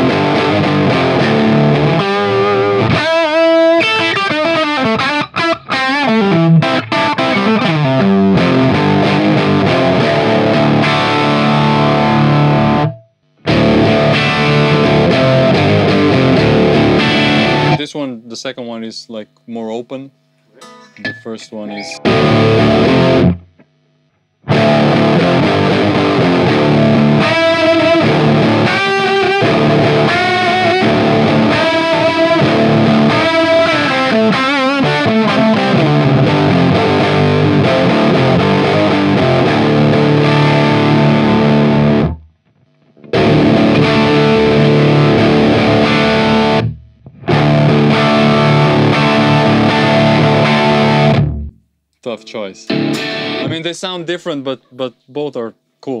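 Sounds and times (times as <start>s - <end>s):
distorted electric guitar: 0.0s - 18.0s, 20.1s - 54.9s.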